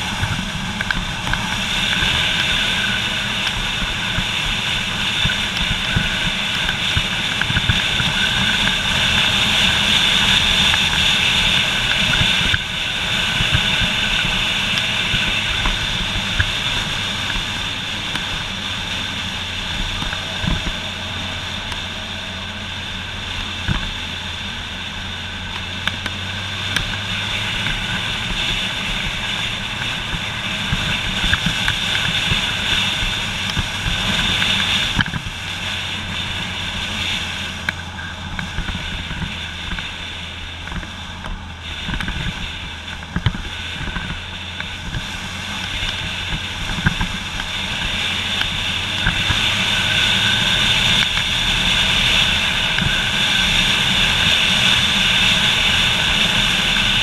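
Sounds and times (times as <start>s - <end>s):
motorcycle engine running: 0.0s - 57.0s
rushing air noise: 0.0s - 57.0s.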